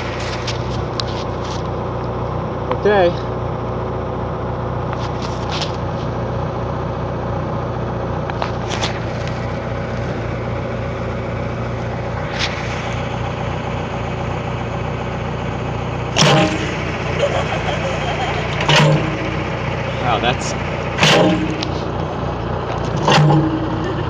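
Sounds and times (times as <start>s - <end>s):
backhoe engine running: 0.0s - 24.0s.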